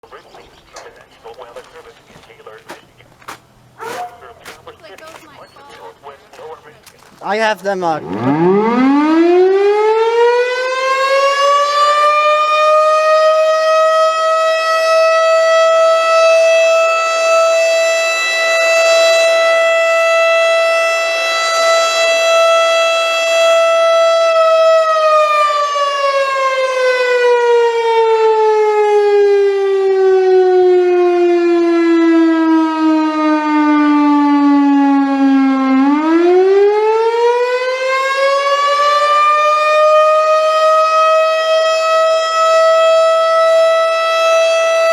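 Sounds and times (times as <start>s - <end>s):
outdoor warning siren: 3.8s - 44.9s.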